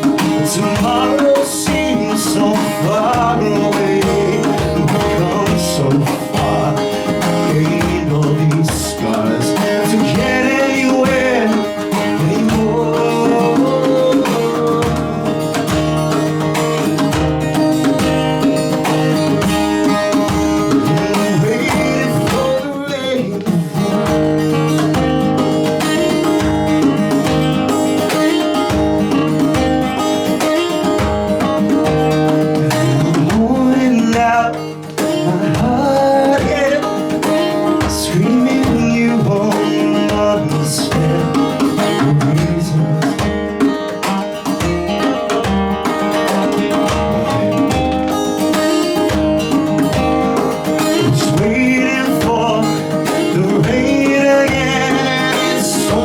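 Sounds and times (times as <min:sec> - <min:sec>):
band playing instrumental: 0:00.0 - 0:23.0, 0:23.6 - 0:56.0
lead guitar line bending in pitch: 0:00.0 - 0:56.0.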